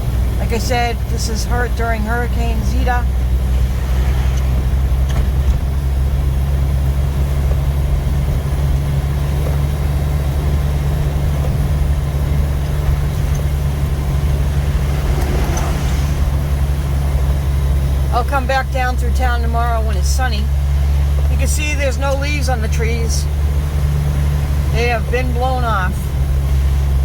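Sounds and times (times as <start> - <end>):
engine and road noise from inside: 0.0 - 27.0.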